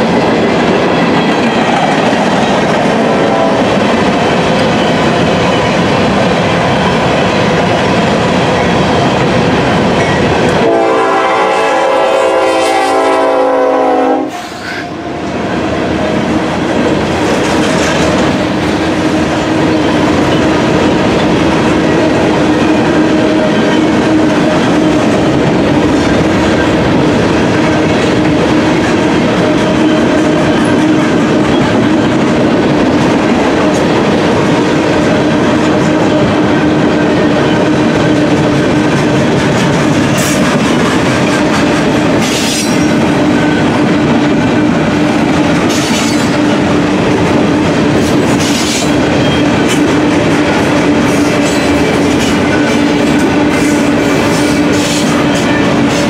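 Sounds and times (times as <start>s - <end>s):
train wheels clattering over rails: 0.0s - 11.0s, 14.4s - 56.0s.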